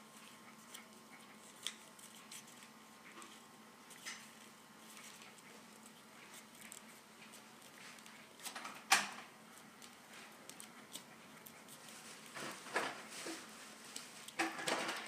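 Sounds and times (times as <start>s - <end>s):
paper rustling and crinkling: 0.2s - 15.0s.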